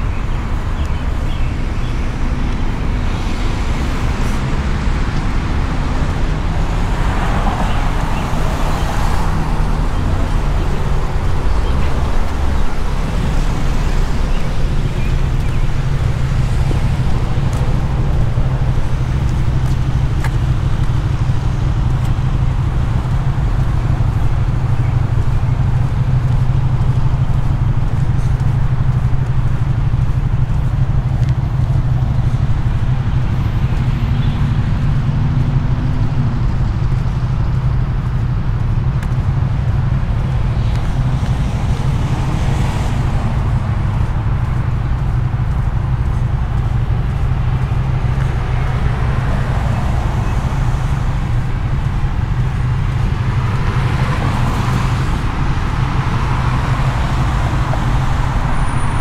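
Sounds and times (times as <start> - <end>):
constant drone: 0.0 - 59.0
road traffic rumble: 0.0 - 59.0.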